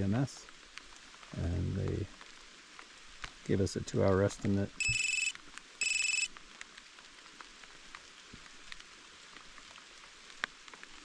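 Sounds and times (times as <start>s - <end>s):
faint rain hiss: 0.0s - 11.0s
rain drops ticking: 0.0s - 11.0s.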